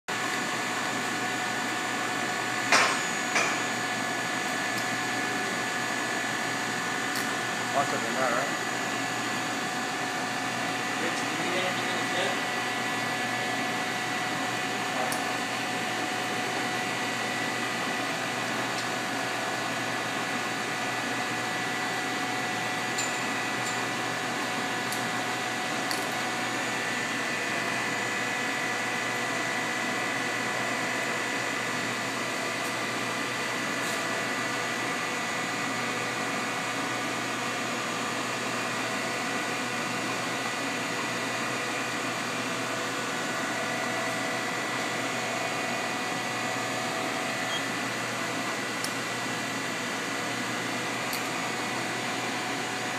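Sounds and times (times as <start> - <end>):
machine mechanical hum: 0.1 - 52.9.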